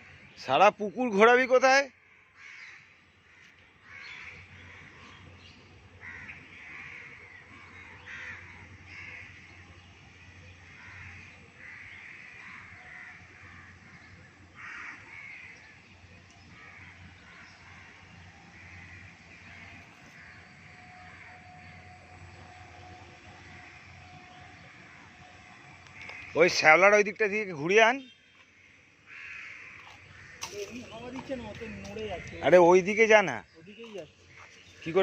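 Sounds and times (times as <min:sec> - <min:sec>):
birds calling harshly: 0:00.0 - 0:35.0.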